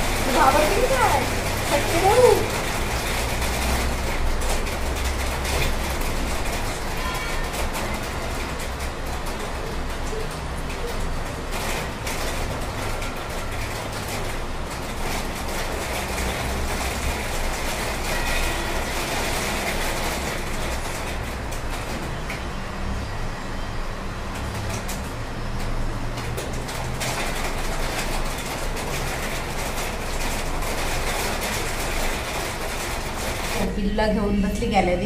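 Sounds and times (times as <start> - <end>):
rain shower: 0.0 - 35.0.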